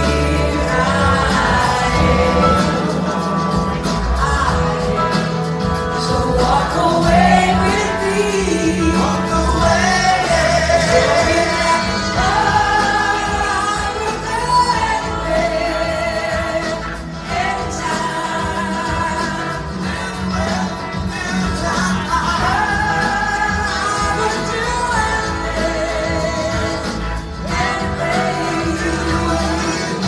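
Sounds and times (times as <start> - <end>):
drums: 0.0 - 30.0
electric guitars: 0.0 - 30.0
woman singing lead: 0.0 - 30.0.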